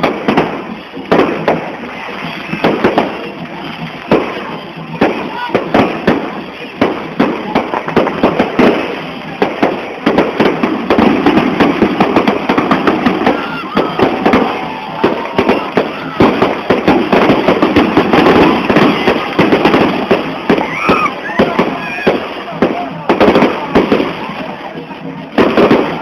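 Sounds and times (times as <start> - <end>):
crowd voices: 0.0 - 26.0
firecrackers banging: 0.0 - 26.0.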